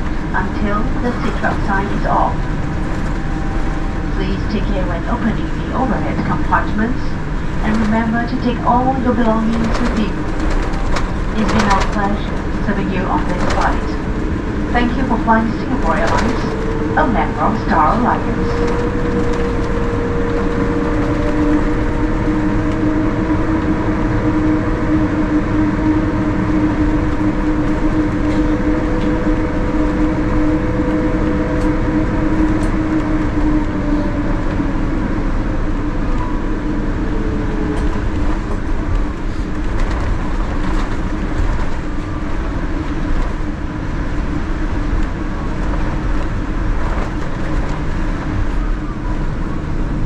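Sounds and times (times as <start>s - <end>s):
aircraft engines idling: 0.0s - 50.0s
aircraft rolling on taxiway: 0.0s - 50.0s.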